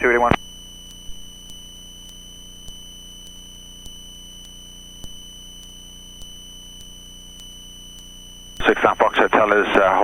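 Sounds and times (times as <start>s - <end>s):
high-pitched electrical whine: 0.0s - 10.0s
faint regular ticks: 0.4s - 8.8s.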